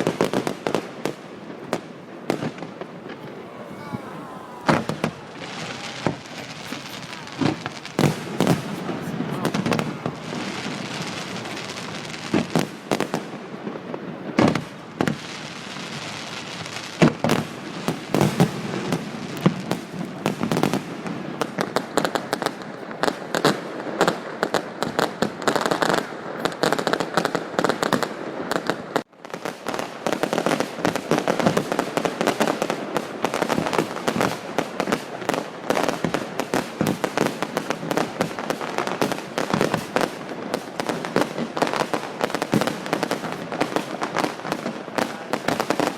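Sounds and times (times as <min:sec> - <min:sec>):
fireworks bangs and crackling: 0:00.0 - 0:03.9, 0:04.5 - 0:45.9
heavy fireworks booms: 0:00.0 - 0:45.9.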